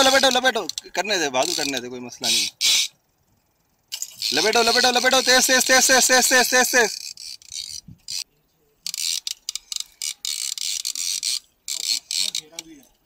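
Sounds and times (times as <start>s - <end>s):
fishing reel whirring and clicking: 0.0s - 3.0s, 3.8s - 8.2s, 8.8s - 12.7s.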